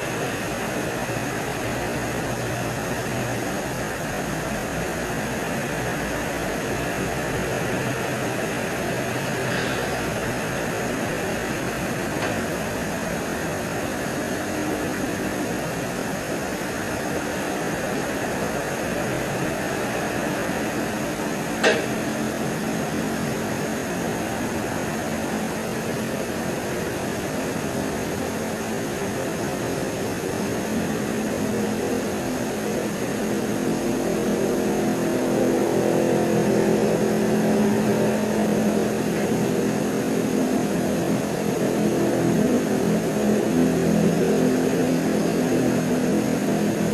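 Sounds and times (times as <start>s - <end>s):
low engine drone: 0.0s - 46.9s
steady hiss: 0.0s - 46.9s.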